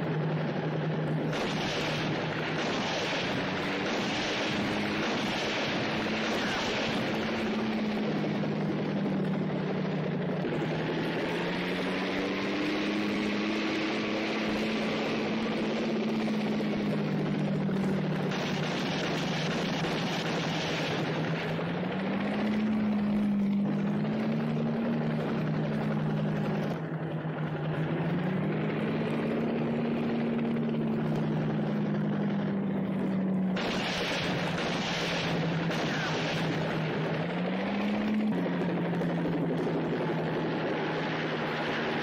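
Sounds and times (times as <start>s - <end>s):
helicopter engine and rotor: 0.0s - 42.0s.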